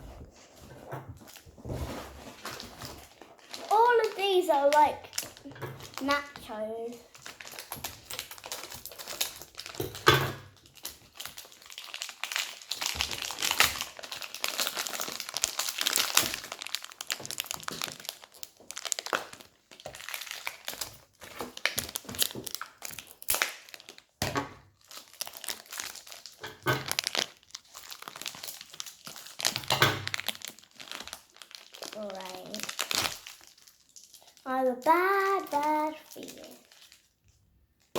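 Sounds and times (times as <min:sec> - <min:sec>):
packaging crinkling and tearing: 0:00.6 - 0:37.9.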